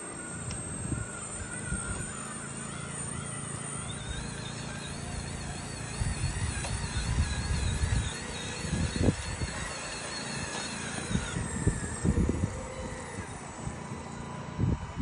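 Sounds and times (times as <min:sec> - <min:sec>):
hydraulic pump whining: 0:00.0 - 0:15.0.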